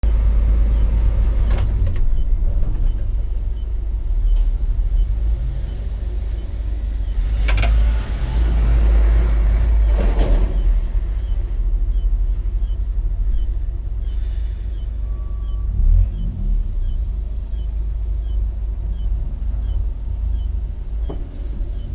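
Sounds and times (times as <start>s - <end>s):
truck diesel engine rumbling: 0.0s - 21.9s.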